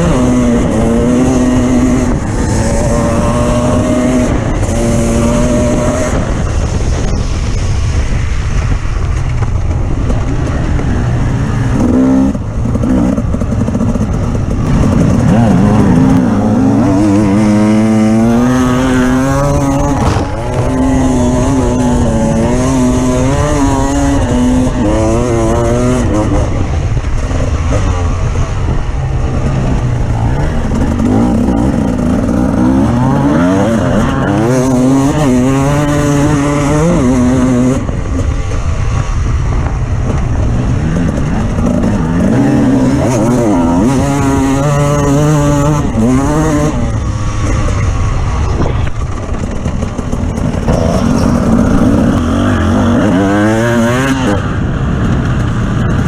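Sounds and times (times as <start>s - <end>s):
off-road vehicle engine revving: 0.0s - 7.0s, 10.2s - 56.0s.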